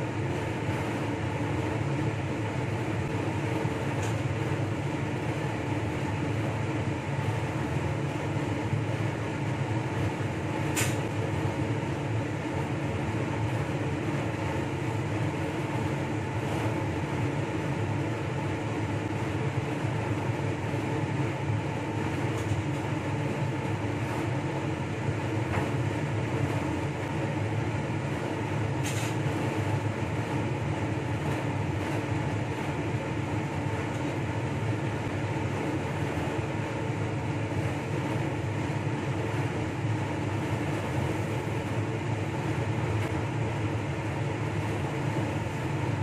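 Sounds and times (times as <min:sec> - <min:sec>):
fan humming: 0:00.0 - 0:46.0.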